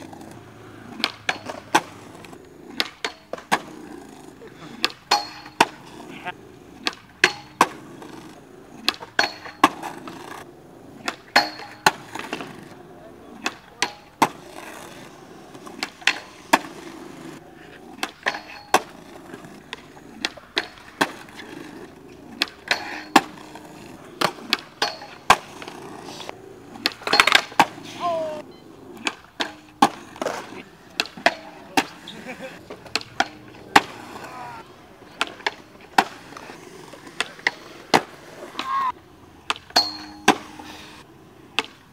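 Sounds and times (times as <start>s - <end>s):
skateboard wheels rolling on concrete: 0.0s - 41.9s
skateboards clacking and landing: 0.0s - 41.9s.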